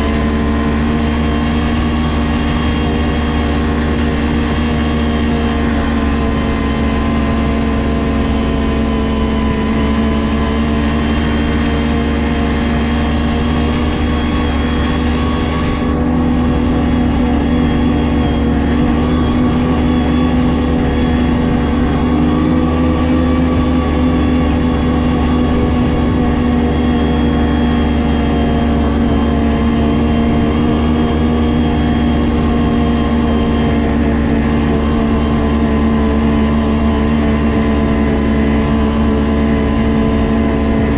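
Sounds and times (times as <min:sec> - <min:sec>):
snowmobile engine droning: 0:00.0 - 0:40.9.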